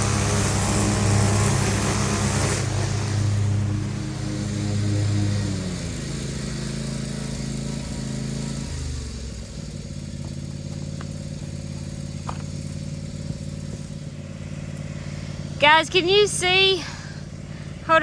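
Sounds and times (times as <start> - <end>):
string trimmer engine idling: 0.0 - 18.0.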